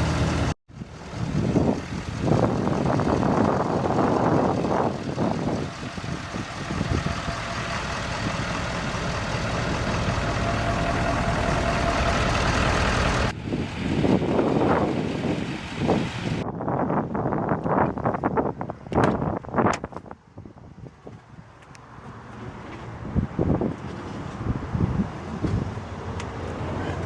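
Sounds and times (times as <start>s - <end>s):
diesel engine running: 0.0s - 16.4s, 21.5s - 27.0s
wind rumble: 0.0s - 27.0s.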